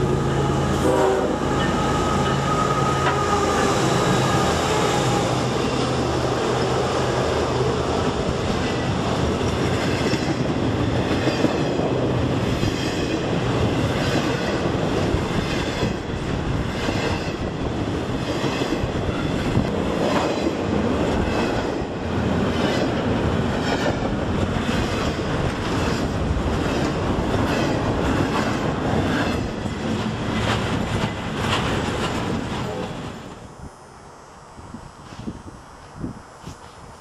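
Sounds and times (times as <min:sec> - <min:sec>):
freight train wheels rumbling: 0:00.0 - 0:33.6.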